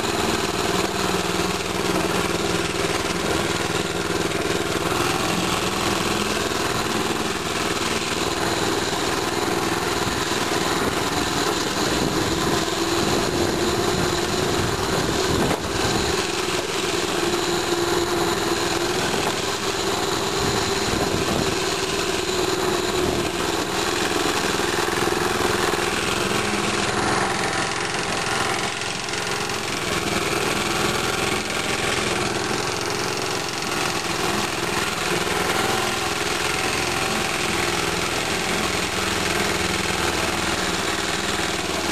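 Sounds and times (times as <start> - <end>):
mini bike engine running: 0.0 - 41.9.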